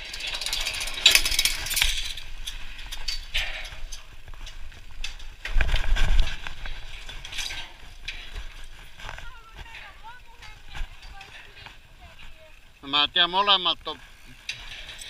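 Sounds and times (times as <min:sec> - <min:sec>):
bike clicks and rattles: 0:00.0 - 0:15.0
tyres crunching over dirt: 0:00.0 - 0:15.0.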